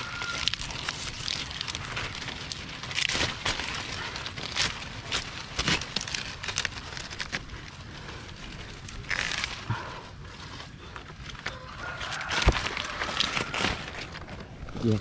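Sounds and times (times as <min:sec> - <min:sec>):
crackling and rustling: 0:00.0 - 0:15.0.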